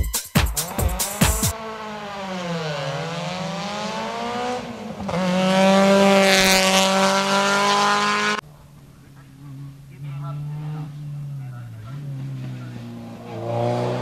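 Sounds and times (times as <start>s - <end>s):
race car engine at high revs: 0.6s - 8.4s, 9.0s - 14.0s.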